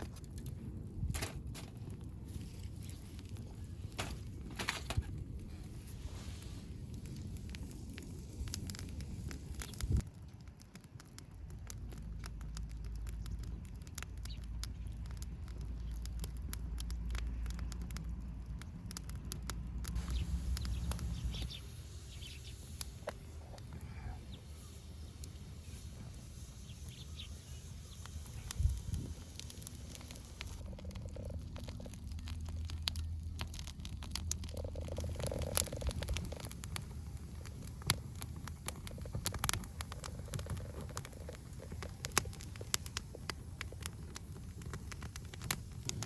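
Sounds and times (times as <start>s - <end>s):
fire crackling and popping: 0.0s - 46.0s
low fire rumble: 0.0s - 46.0s.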